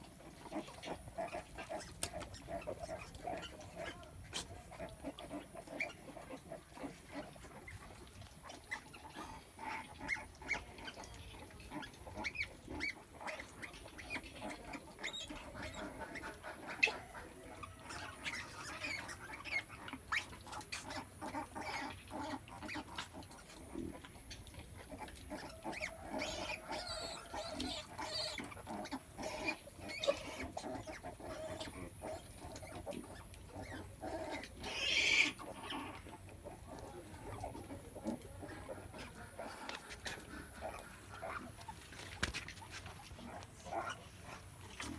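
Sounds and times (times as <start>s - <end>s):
pigs grunting: 0.0s - 44.9s
pigs squeaking: 0.0s - 44.9s.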